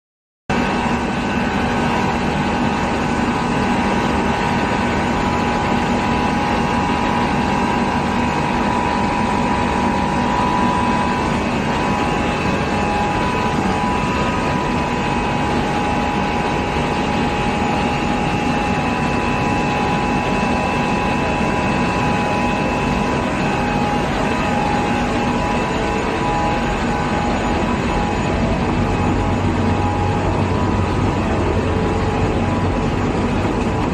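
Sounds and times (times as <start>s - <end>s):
machine drone: 0.5s - 33.9s
machine whining tones: 0.5s - 33.9s.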